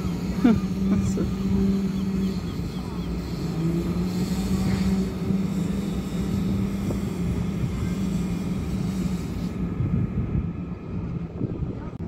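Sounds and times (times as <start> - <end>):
low rumbling: 0.0 - 12.0
ship machinery humming: 0.0 - 12.0.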